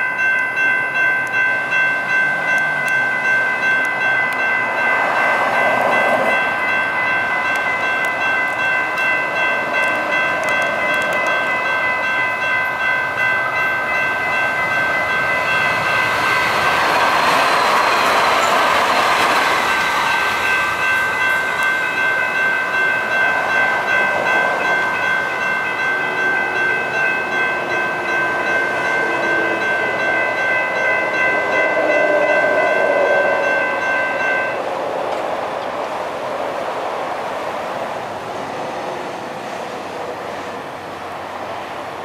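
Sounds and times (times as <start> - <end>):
railroad crossing bell ringing: 0.0 - 35.7
road traffic noise: 0.0 - 42.0.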